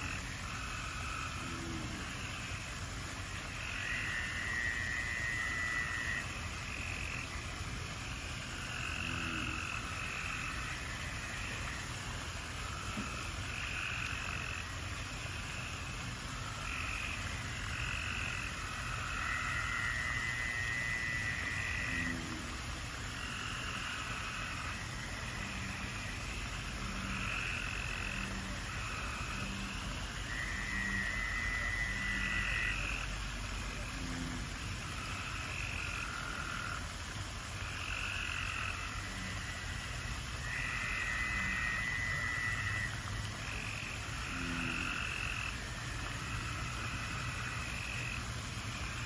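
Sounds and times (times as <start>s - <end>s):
frogs croaking: 0.0s - 49.0s.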